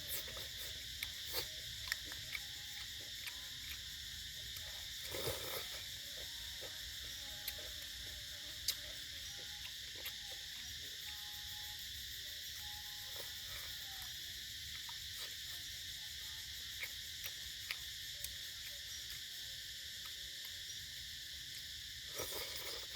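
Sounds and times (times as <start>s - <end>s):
insects chirping chorus: 0.0s - 22.9s.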